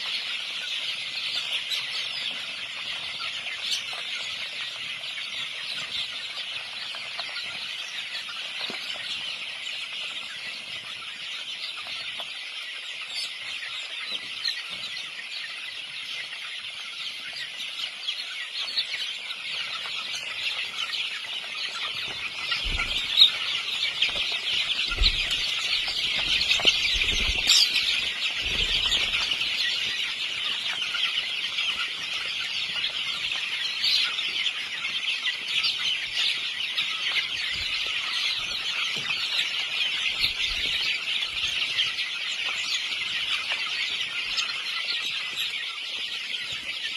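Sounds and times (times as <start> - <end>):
fowl clucking: 0.0 - 46.9
many birds chattering: 0.0 - 46.9.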